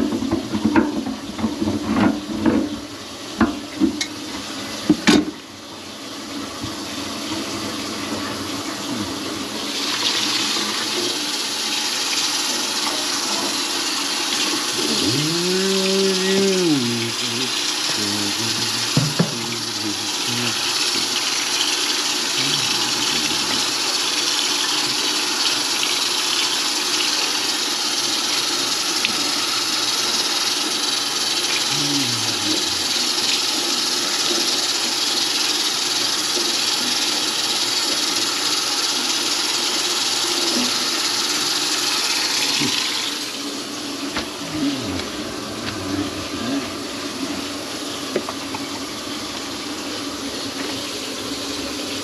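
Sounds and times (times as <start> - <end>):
running water: 0.0 - 52.0.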